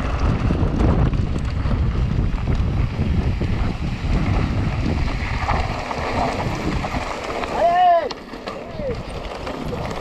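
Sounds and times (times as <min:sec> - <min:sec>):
wind buffeting microphone: 0:00.0 - 0:08.0, 0:08.6 - 0:10.0
tyres rumbling on gravel: 0:00.0 - 0:10.0.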